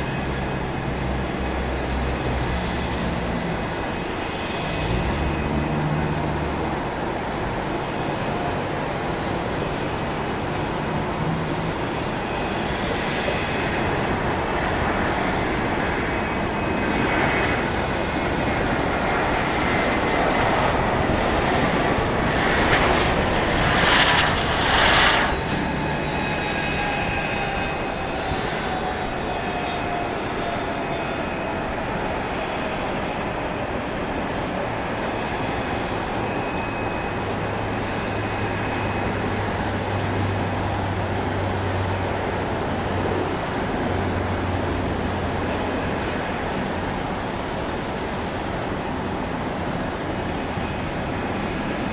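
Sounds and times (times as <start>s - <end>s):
jet engine whine: 0.0s - 51.9s
jet engines rushing: 0.0s - 51.9s.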